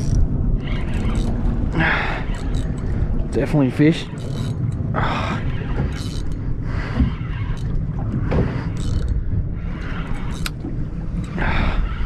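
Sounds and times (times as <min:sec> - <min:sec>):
boat low rumble: 0:00.0 - 0:12.0.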